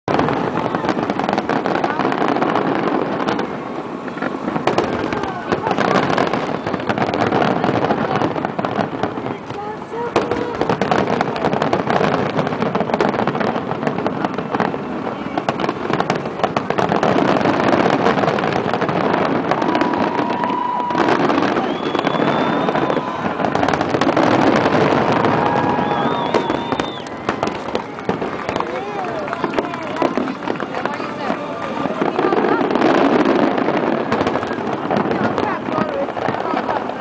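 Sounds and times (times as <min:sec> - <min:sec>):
fireworks crackling and bangs: 0:00.0 - 0:37.0
firework whistles: 0:00.1 - 0:36.2.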